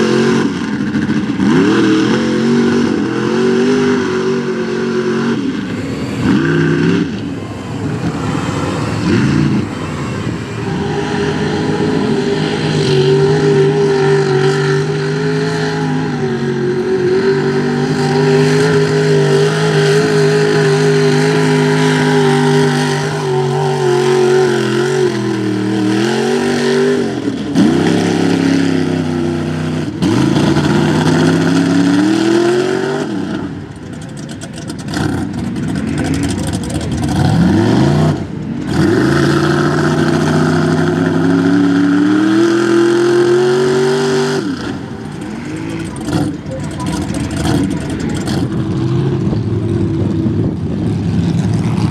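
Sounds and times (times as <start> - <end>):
truck engine revving hard: 0.0 - 51.9.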